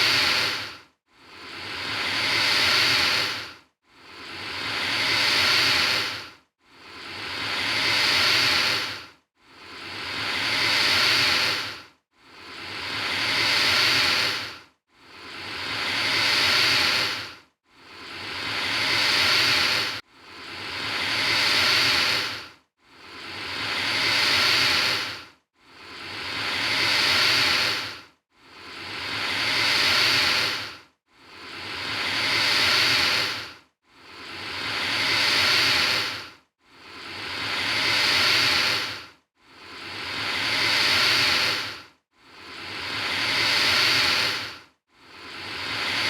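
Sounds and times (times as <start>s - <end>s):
alligator hissing: 0.0s - 6.2s, 7.0s - 9.0s, 9.7s - 11.8s, 12.4s - 14.5s, 15.2s - 17.3s, 17.9s - 22.4s, 23.1s - 28.0s, 28.6s - 36.2s, 36.9s - 39.0s, 39.7s - 41.8s, 42.4s - 44.6s, 45.3s - 46.0s.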